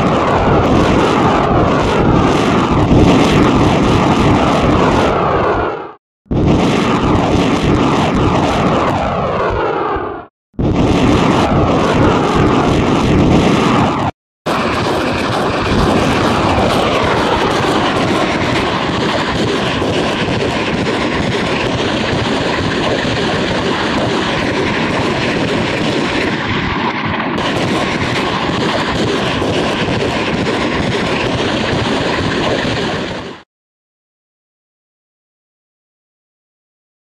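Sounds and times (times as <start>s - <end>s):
rocket launcher roar: 0.0s - 33.4s.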